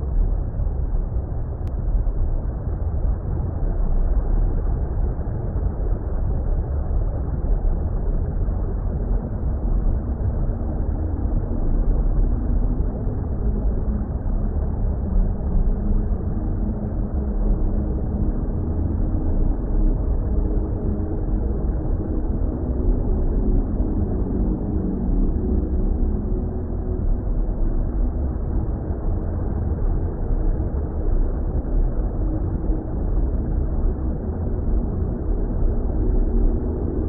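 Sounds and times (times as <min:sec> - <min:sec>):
deep underwater rumble: 0:00.0 - 0:37.0
faint humming tones: 0:00.0 - 0:37.0.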